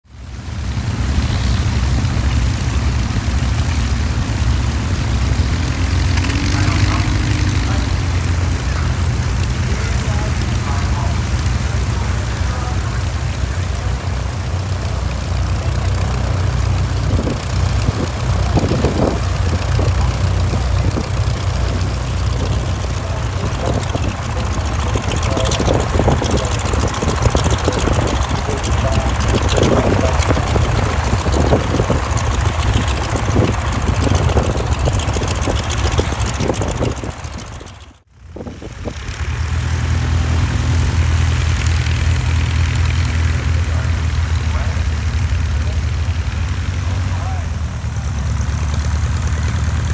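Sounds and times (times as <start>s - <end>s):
biplane engine idling: 0.1s - 49.9s.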